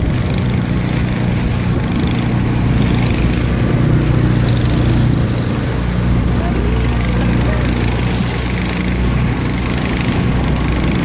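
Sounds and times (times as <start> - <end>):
small boat engine running: 0.0 - 11.0
wind and water noise: 0.0 - 11.0.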